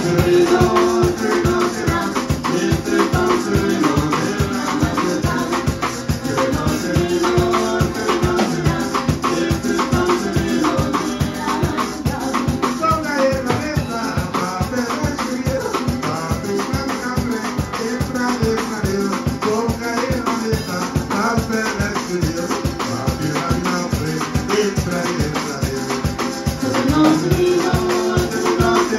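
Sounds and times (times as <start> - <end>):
man singing: 0.0 - 28.9
rattling shaker beat: 0.0 - 28.9
strummed acoustic guitars: 0.0 - 28.9.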